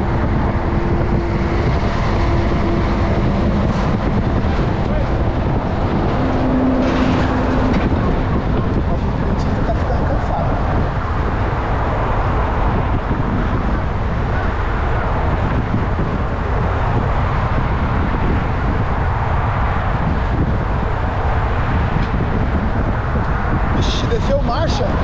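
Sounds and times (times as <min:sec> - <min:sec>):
road traffic noise: 0:00.0 - 0:25.0
wind rush over microphone: 0:00.0 - 0:25.0.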